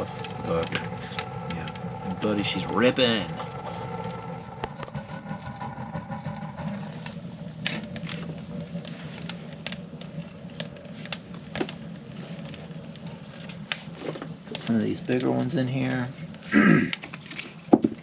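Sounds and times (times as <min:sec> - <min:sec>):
fire crackling and popping: 0:00.0 - 0:18.0
stove draft rumble: 0:00.0 - 0:18.0.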